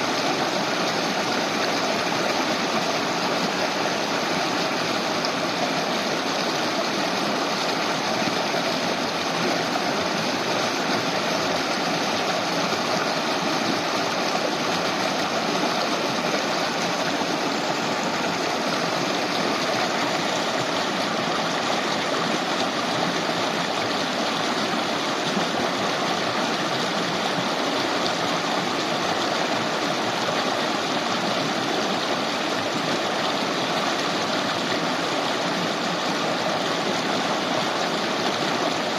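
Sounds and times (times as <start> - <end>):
river running over stones: 0.0 - 38.9.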